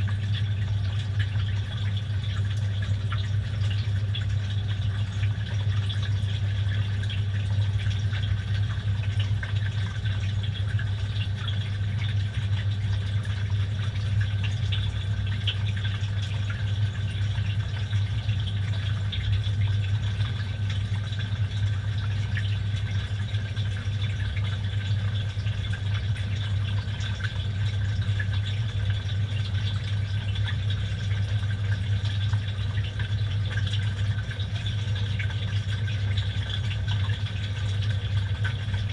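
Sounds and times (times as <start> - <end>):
washing machine low hum: 0.0 - 38.9
water splashing in washing drum: 0.0 - 38.9.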